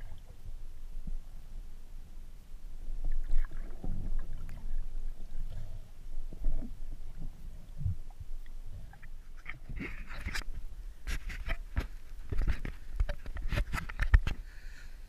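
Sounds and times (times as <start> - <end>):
underwater rumbling: 0.0 - 14.4.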